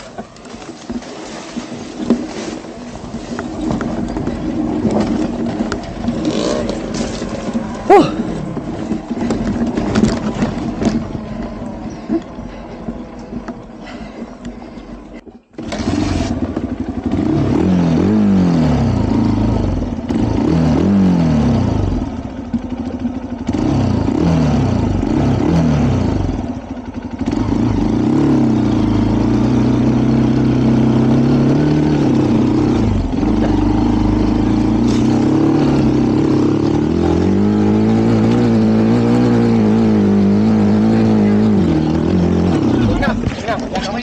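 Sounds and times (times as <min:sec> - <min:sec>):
motorcycle engine revving: 0:02.1 - 0:13.2, 0:15.4 - 0:44.0.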